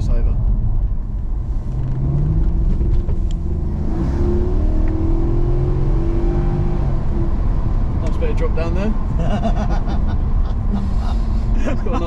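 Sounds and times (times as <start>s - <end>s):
low road rumble: 0.0s - 12.0s
car engine accelerating: 0.6s - 12.0s.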